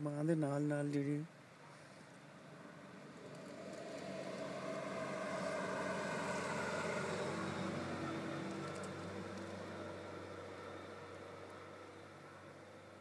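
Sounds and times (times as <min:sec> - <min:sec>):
vehicle passing by: 0:02.4 - 0:13.0.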